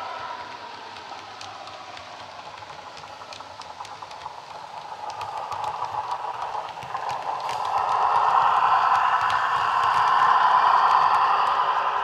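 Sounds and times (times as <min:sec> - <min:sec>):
light clicks: 0:00.3 - 0:11.9.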